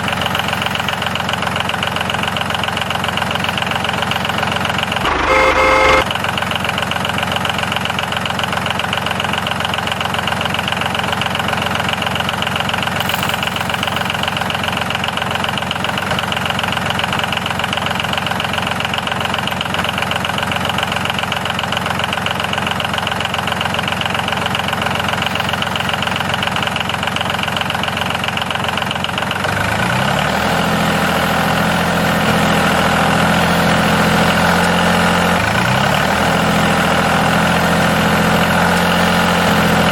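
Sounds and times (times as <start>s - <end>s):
small model tractor motor rattling: 0.0s - 39.9s.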